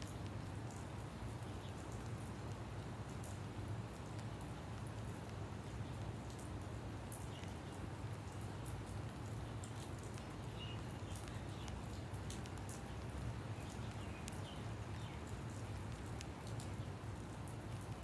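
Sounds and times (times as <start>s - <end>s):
raindrops ticking on surfaces: 0.0s - 18.0s.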